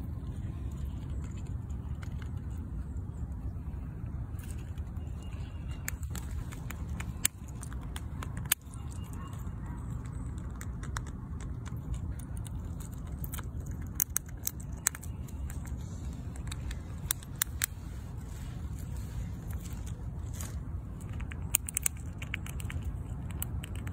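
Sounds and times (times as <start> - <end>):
squirrel gnawing and chewing: 0.0 - 23.9.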